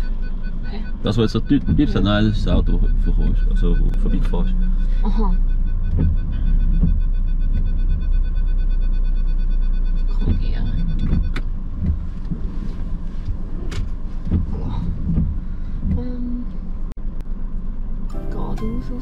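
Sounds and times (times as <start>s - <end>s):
parking sensor beeping: 0.0s - 17.0s, 18.1s - 19.0s
low engine rumble: 0.0s - 19.0s.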